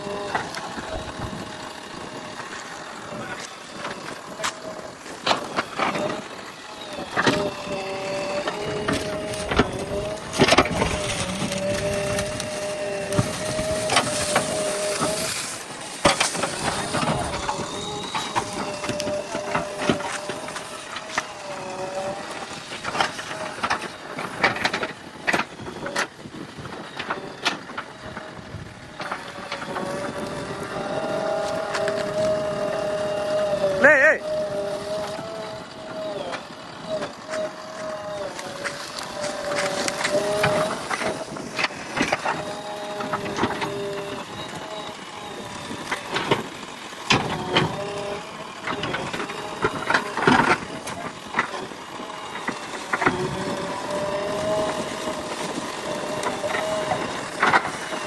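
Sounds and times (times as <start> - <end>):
backhoe engine whining under load: 0.0 - 58.0.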